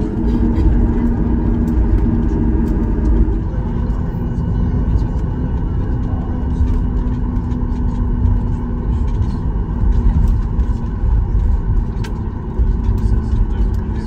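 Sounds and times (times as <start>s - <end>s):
jet engines at taxi power: 0.0s - 14.0s
steady hum: 0.0s - 14.0s
tyres rumbling on taxiway: 0.0s - 14.0s.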